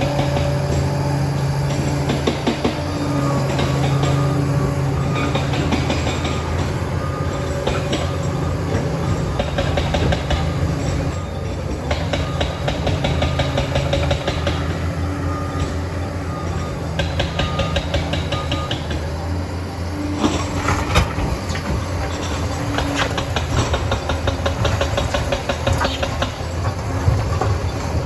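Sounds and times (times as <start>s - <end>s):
bulldozer diesel engine running: 0.0s - 28.0s
steel tracks clanking and squeaking: 0.0s - 28.0s.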